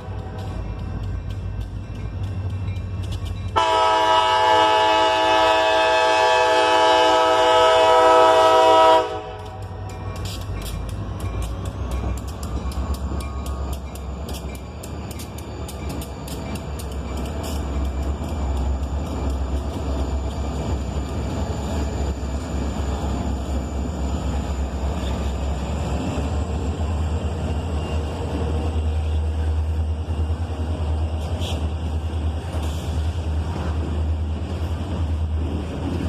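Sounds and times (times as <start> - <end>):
freight train rumbling past: 0.0 - 36.0.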